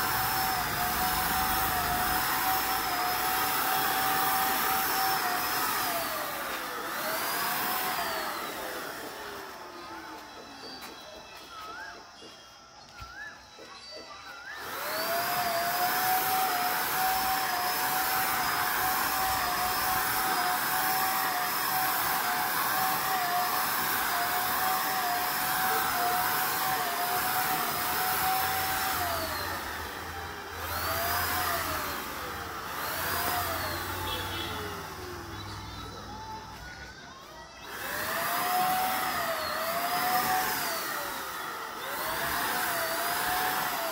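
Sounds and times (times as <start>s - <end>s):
paint spray gun whining and hissing: 0.0s - 43.9s.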